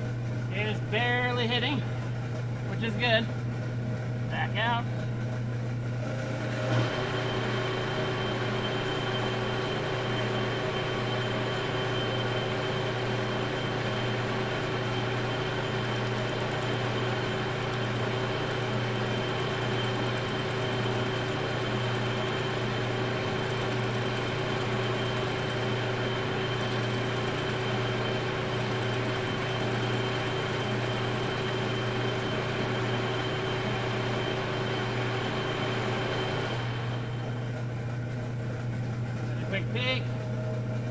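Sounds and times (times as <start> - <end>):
metal lathe humming: 0.0 - 40.9.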